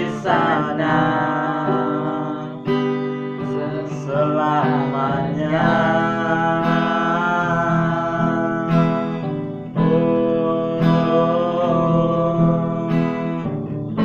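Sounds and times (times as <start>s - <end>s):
acoustic guitar strumming: 0.0s - 14.0s
person singing: 0.0s - 14.0s.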